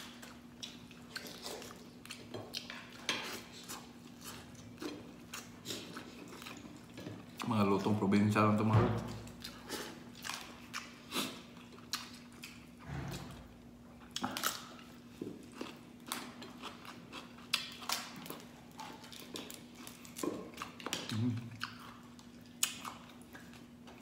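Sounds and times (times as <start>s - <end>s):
wet chewing: 0.0s - 7.5s, 9.2s - 12.8s, 14.0s - 24.0s.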